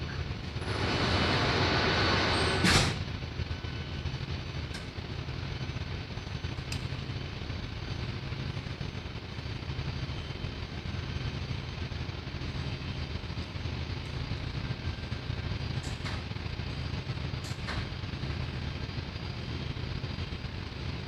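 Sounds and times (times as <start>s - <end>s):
machinery droning: 0.0s - 21.0s.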